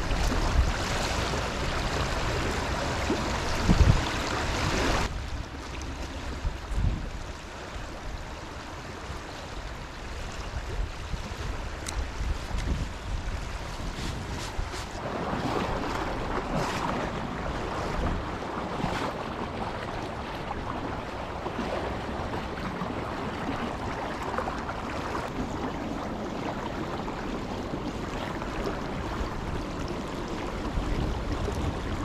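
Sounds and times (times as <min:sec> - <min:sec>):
wind noise on microphone: 0:00.0 - 0:05.4, 0:06.2 - 0:08.2, 0:10.1 - 0:32.0
river current flowing: 0:00.0 - 0:32.0.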